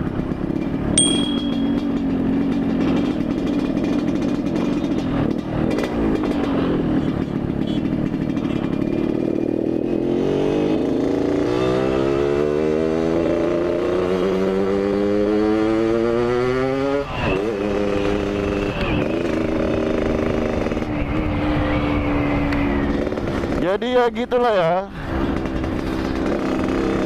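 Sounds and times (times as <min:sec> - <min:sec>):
motorcycle engine accelerating: 0:00.0 - 0:23.8, 0:25.0 - 0:27.0.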